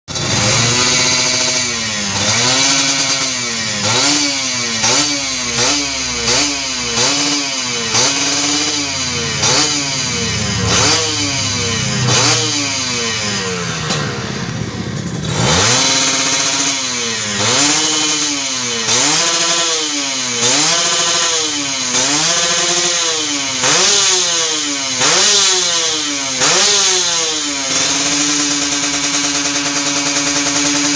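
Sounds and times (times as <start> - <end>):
motorcycle engine revving: 0.1 - 30.9.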